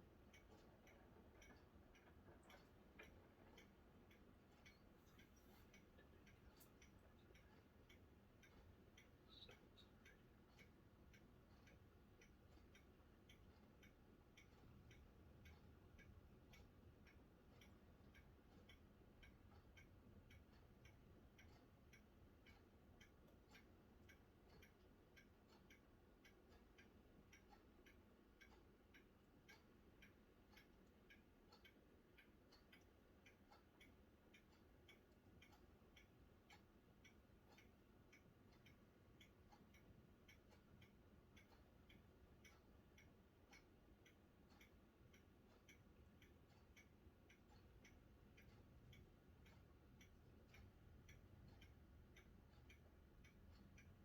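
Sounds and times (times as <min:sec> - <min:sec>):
faint regular ticking: 0:00.0 - 0:54.0.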